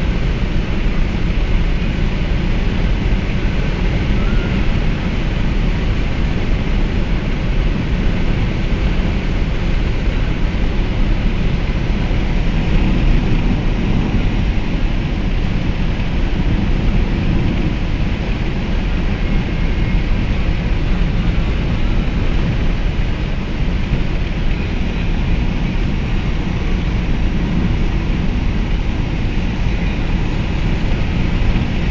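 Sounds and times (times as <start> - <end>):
heavy rain: 0.0 - 31.9
vehicle road noise: 0.0 - 31.9.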